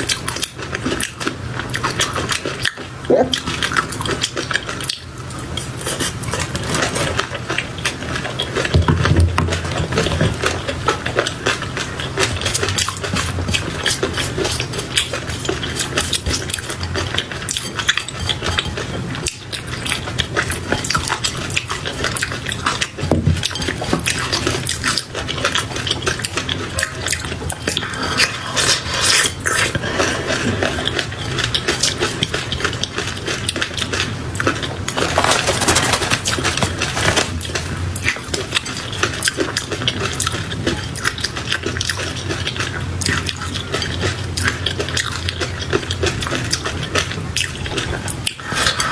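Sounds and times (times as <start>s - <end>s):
wet chewing and mouth sounds: 0.0s - 48.9s.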